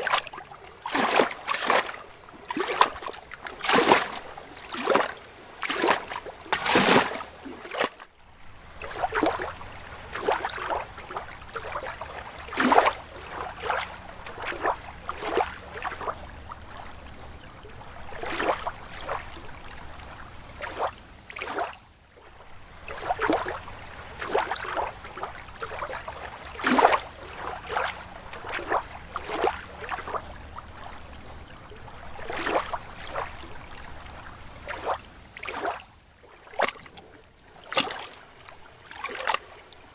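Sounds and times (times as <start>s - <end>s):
lake water lapping: 0.0s - 39.9s
low wash of water: 0.0s - 39.9s.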